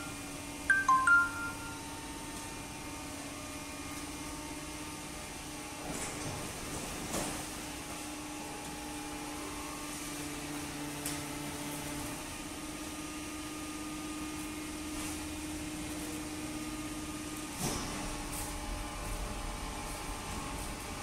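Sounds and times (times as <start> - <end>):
baler mechanical hum: 0.0 - 21.0.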